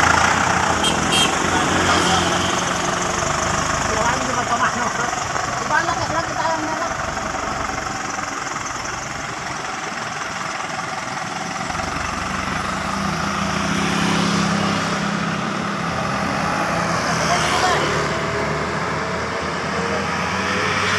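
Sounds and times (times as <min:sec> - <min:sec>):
diesel truck engine under load: 0:00.0 - 0:20.9.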